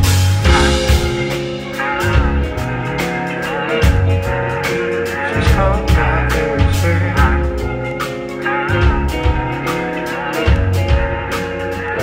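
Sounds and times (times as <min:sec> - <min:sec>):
bass guitar: 0:00.0 - 0:12.0
drum and cymbal hits: 0:00.0 - 0:12.0
electric guitar lead bending: 0:00.0 - 0:12.0.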